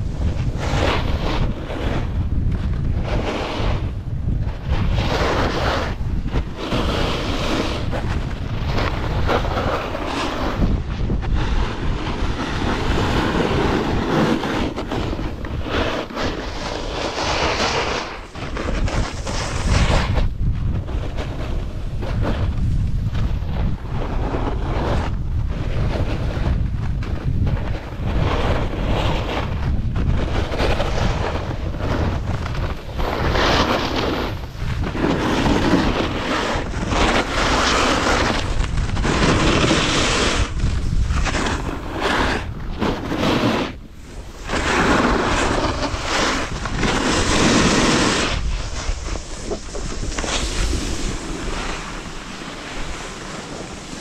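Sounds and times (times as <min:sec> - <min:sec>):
snowboard scraping across snow: 0:00.0 - 0:54.0
wind buffeting microphone: 0:00.0 - 0:54.0.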